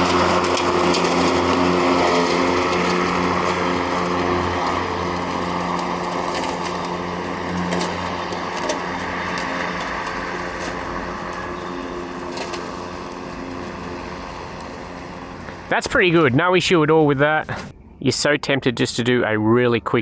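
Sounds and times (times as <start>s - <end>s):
electric mower hum: 0.0s - 16.5s.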